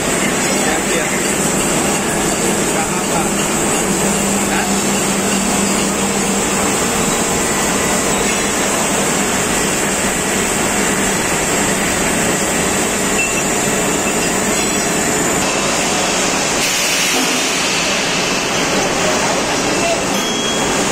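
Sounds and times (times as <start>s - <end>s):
milling machine cutting metal: 0.0s - 20.9s.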